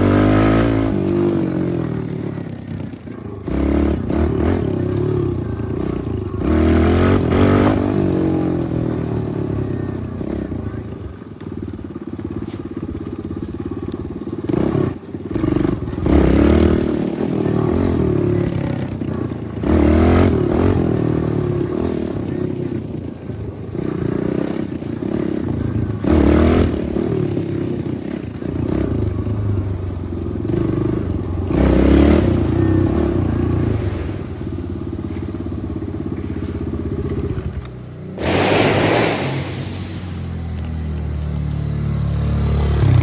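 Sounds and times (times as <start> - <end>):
pit bike engine revving: 0.0 - 10.9, 11.8 - 43.0.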